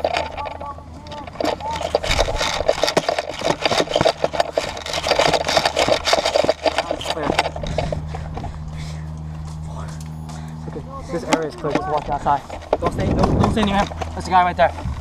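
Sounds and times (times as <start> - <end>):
footsteps crunching on dirt: 0.0 - 15.0
gear rattling: 0.0 - 15.0
steady low hum: 0.0 - 15.0.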